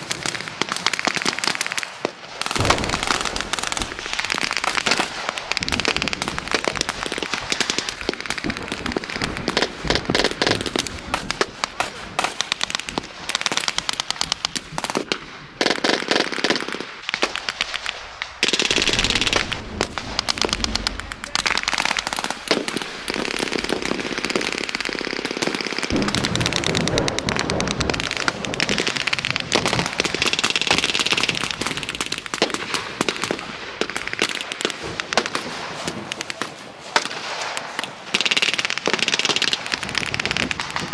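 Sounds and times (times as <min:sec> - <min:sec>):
rifles and machine guns firing: 0:00.0 - 0:40.9.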